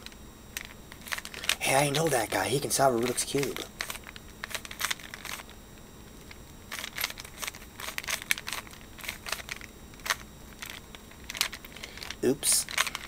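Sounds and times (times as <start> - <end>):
puzzle cube plastic clicks: 0.6 - 2.1, 3.0 - 5.6, 6.2 - 13.0.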